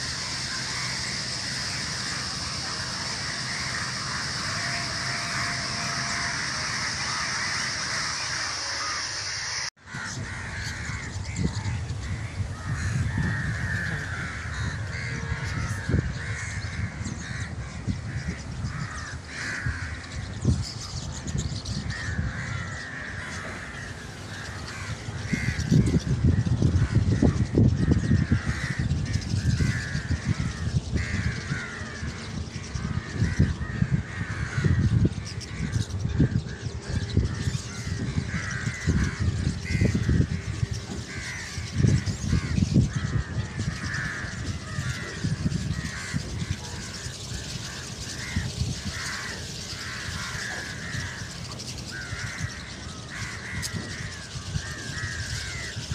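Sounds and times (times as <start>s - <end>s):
flock of starlings chattering: 0.0s - 55.9s
low rumbling noise: 0.0s - 55.9s.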